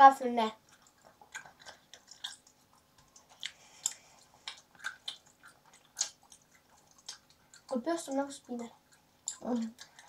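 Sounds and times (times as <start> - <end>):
person chewing candy: 0.6 - 10.0.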